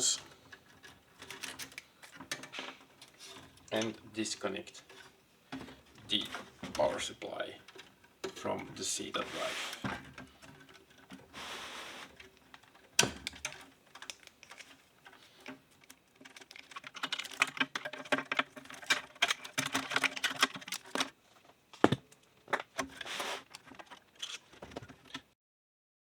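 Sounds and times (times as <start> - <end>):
plastic and metal parts clicking: 0.0 - 11.4, 12.0 - 25.3.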